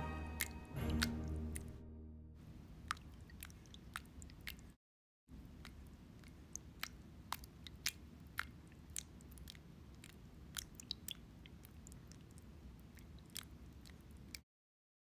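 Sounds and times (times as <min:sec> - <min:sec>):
faint low room hum: 0:02.4 - 0:14.4.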